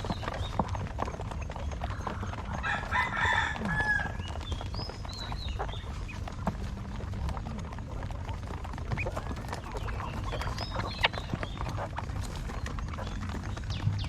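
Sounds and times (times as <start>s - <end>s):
quail chirping: 0.0s - 14.0s.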